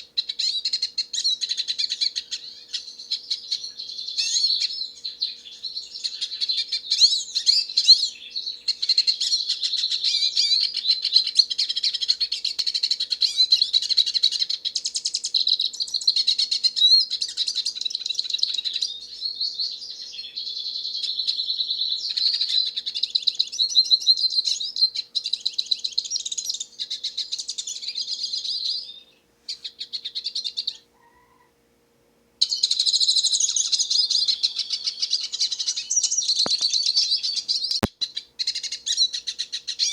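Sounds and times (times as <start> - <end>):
bird twittering song: 0.0 - 31.4, 32.4 - 39.9.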